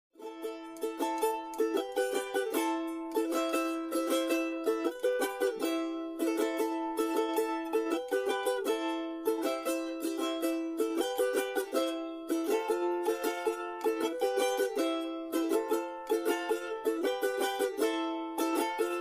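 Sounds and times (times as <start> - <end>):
charango plucked melody: 0.2 - 19.0.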